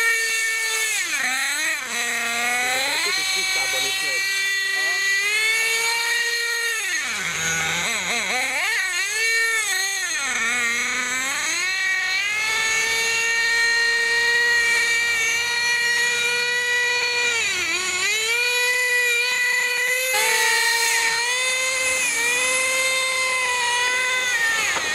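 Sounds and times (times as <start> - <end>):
nitro engine buzzing at high revs: 0.0 - 24.9.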